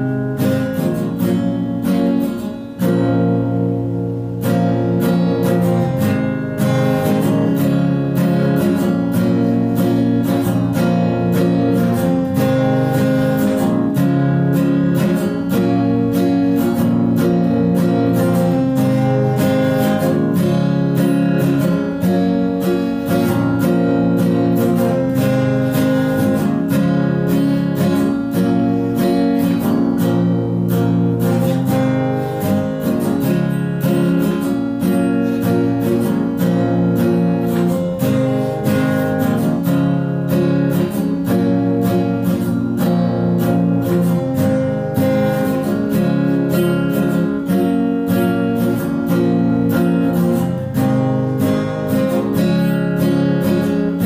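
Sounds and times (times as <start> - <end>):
strummed acoustic guitar music: 0.0 - 54.0.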